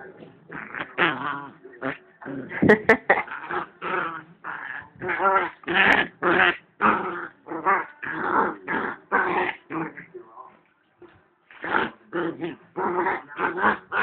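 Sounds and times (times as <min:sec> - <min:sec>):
dogs growling and yipping: 0:00.5 - 0:10.1, 0:11.5 - 0:14.0.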